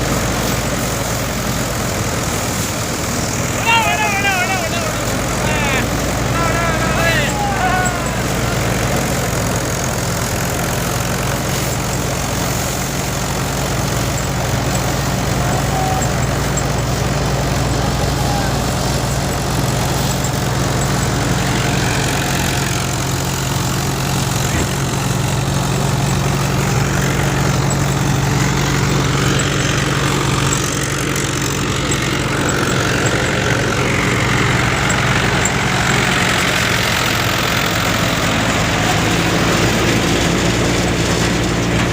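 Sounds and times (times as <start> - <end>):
thresher engine hum: 0.0 - 41.9.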